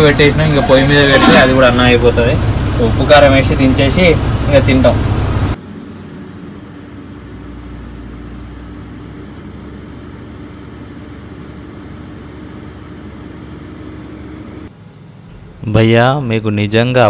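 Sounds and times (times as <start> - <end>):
machine hum with steady tone: 0.0 - 16.4.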